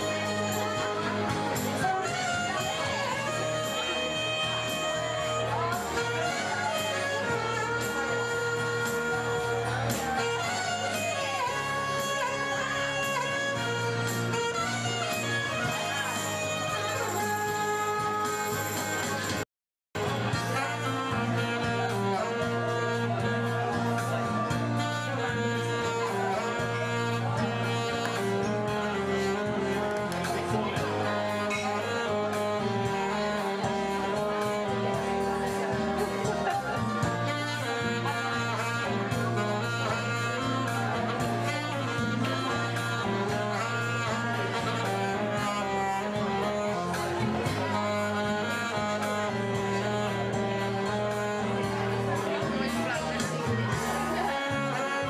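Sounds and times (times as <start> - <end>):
bass line: 0.0 - 19.4, 20.0 - 55.0
saxophone melody: 0.0 - 19.4, 20.0 - 55.0.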